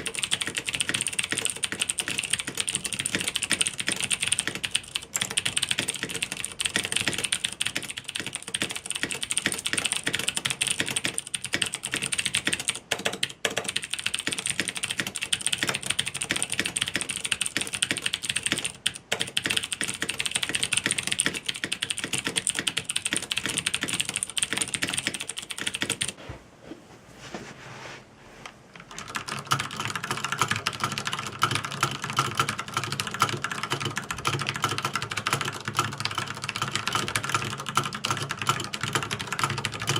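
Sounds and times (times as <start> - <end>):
typing on mechanical keyboard: 0.0 - 26.2, 28.8 - 39.9.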